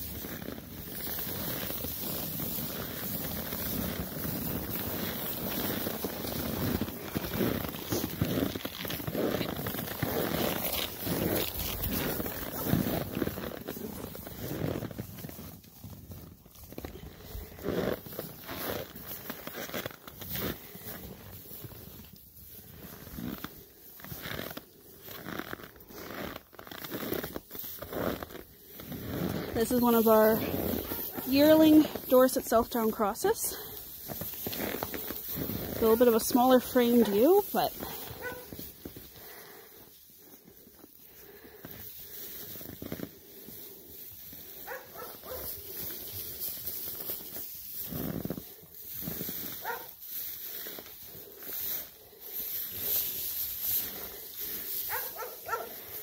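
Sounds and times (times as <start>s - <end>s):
crunching in snowy straw: 0.0s - 56.0s.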